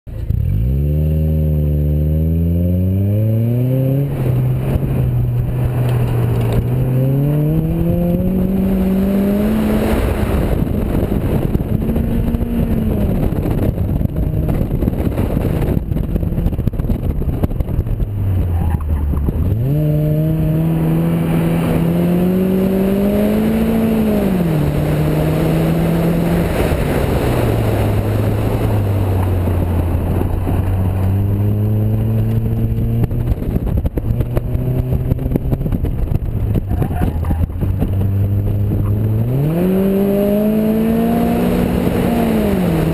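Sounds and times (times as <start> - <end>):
car engine revving: 0.1 - 42.9
wind and road noise: 0.1 - 42.9.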